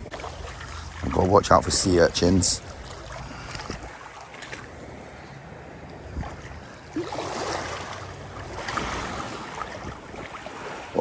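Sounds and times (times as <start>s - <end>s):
seawater sloshing around feet: 0.0s - 11.0s
wind buffeting microphone: 0.8s - 11.0s.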